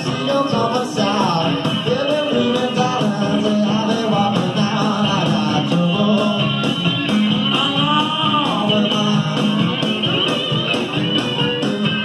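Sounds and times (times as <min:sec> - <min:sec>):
bass guitar: 0:00.0 - 0:12.0
electric guitar: 0:00.0 - 0:12.0
rock band music: 0:00.0 - 0:12.0
steady drum beat: 0:00.0 - 0:12.0.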